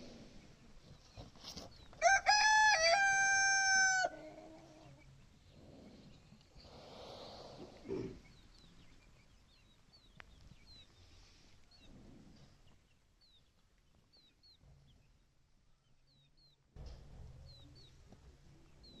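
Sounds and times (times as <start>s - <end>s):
faint birds chirping: 0.0s - 2.1s, 4.1s - 19.0s.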